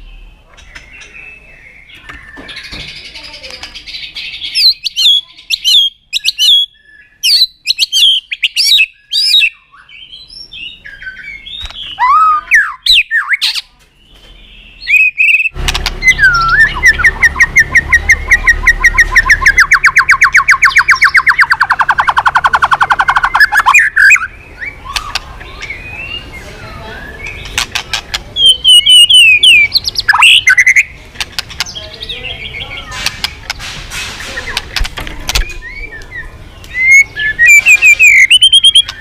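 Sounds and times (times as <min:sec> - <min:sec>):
bird singing whistled phrases and trills: 0:00.0 - 0:27.6, 0:28.4 - 0:31.0, 0:35.4 - 0:39.0.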